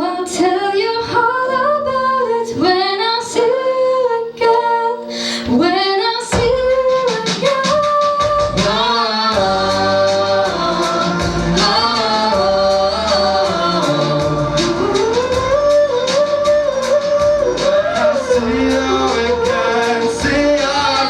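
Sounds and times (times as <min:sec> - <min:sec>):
light accompaniment with beat: 0:00.0 - 0:21.0
woman singing pop ballad: 0:00.0 - 0:21.0.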